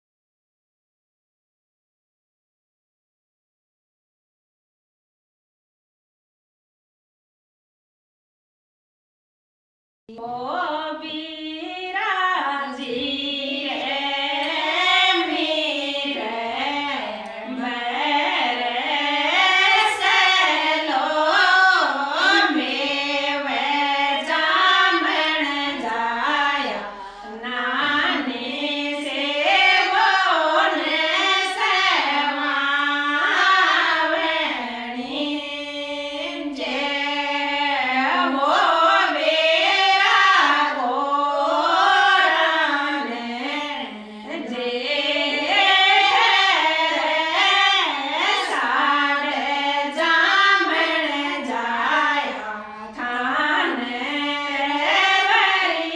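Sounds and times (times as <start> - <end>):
group of women singing: 10.1 - 55.9.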